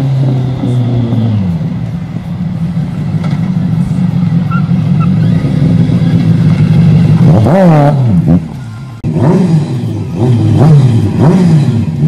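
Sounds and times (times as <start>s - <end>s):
car engine approaching: 0.0s - 12.0s.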